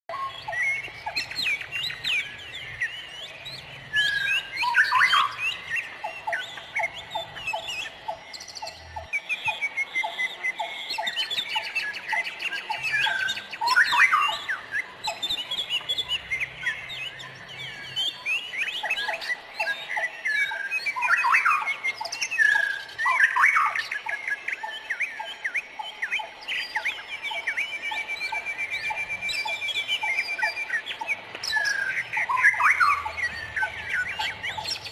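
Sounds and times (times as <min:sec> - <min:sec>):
repeated low bird call: 0:00.1 - 0:34.9
songbirds chirping and singing: 0:00.1 - 0:34.9.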